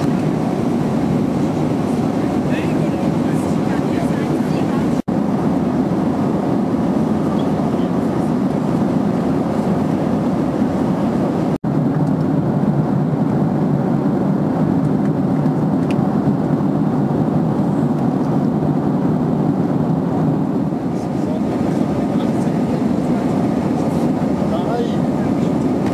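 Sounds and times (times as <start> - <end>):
airplane cabin roar: 0.0 - 25.9.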